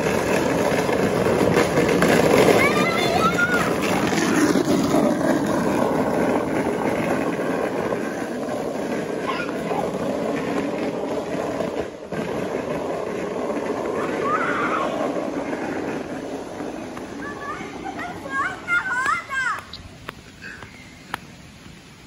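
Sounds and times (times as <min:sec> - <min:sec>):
cart wheels rattling on asphalt: 0:00.0 - 0:21.9.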